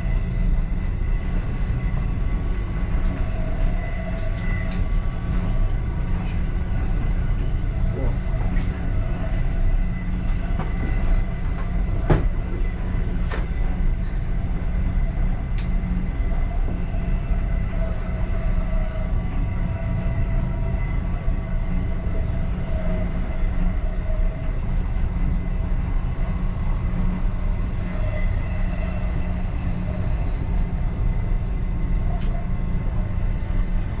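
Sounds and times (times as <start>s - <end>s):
train car rumbling on track: 0.0s - 34.0s.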